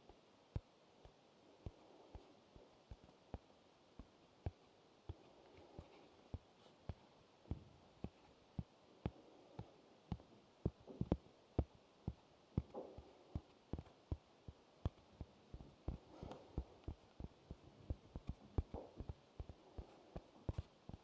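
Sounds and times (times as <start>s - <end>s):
light sharp tapping: 0.5s - 21.0s.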